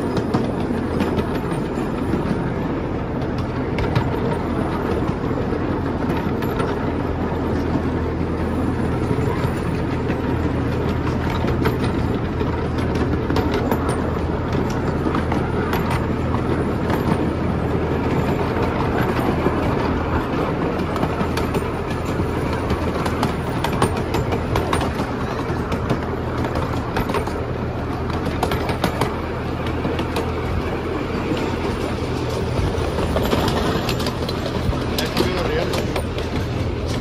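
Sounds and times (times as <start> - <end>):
small train running on track: 0.0 - 37.0
wheels clacking on rails: 0.0 - 37.0.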